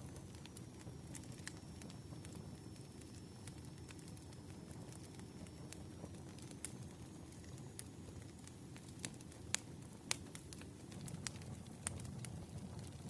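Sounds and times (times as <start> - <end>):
firewood crackling: 0.0 - 13.0.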